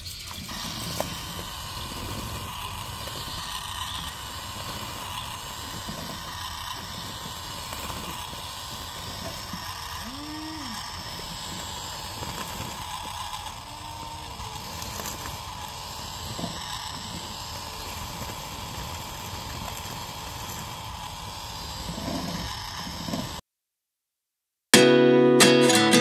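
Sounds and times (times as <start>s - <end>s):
toy motors whining: 0.0s - 23.4s.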